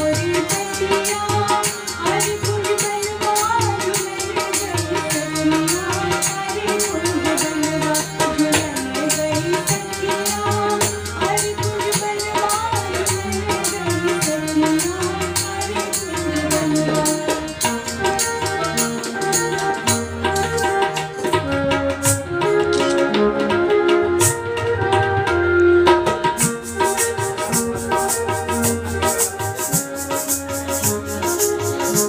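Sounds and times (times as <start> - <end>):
fast rattle beat: 0.0 - 21.7, 26.3 - 32.0
wavering folk melody: 0.1 - 32.0.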